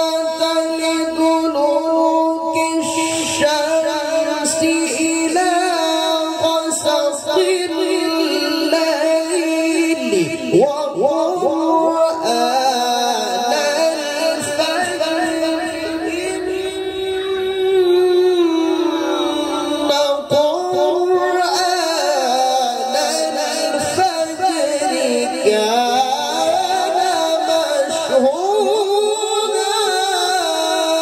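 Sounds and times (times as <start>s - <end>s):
man reciting melodically over pa: 0.0s - 31.0s.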